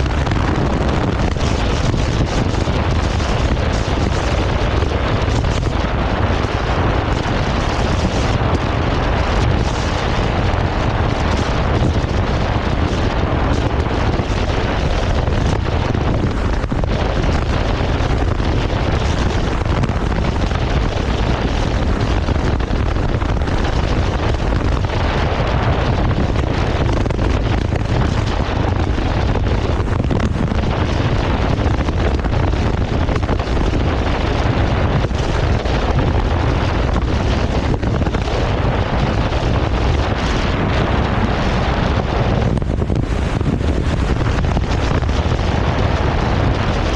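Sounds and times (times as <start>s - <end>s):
motorcycle engine running: 0.0s - 46.9s
wind rush on microphone: 0.0s - 46.9s.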